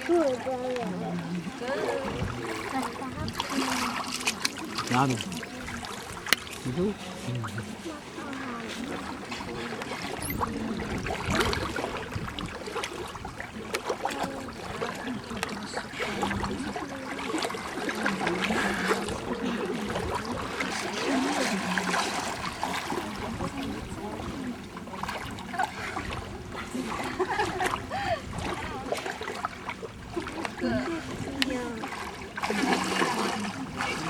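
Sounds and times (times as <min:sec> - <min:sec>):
murmur of voices: 0:00.0 - 0:34.0
seawater splashing and lapping: 0:00.0 - 0:34.0.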